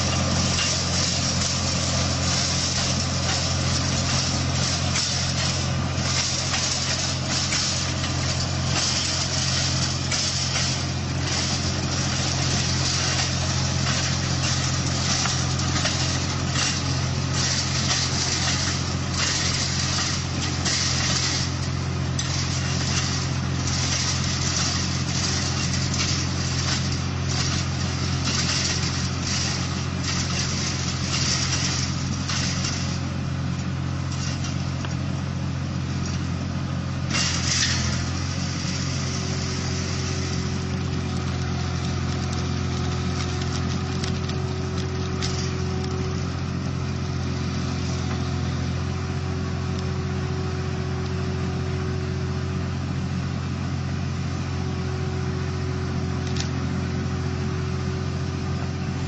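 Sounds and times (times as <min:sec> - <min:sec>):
loader engine humming: 0:00.0 - 0:59.0.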